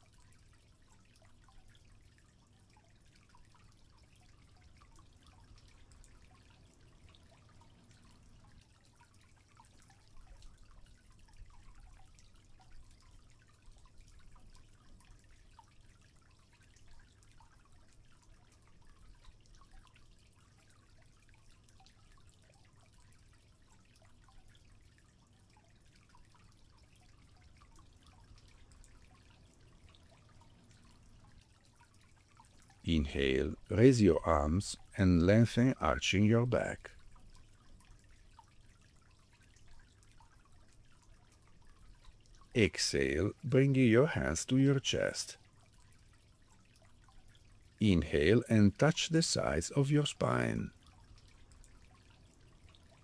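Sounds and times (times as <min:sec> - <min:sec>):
faint trickling water: 0:00.0 - 0:53.0.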